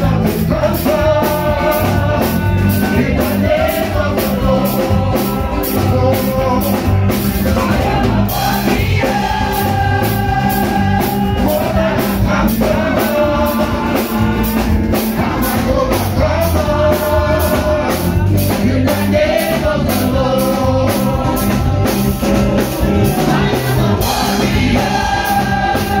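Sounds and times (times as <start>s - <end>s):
drum kit beat: 0.0s - 26.0s
guitar: 0.0s - 26.0s
keyboard: 0.0s - 26.0s
people singing into microphones: 0.0s - 26.0s.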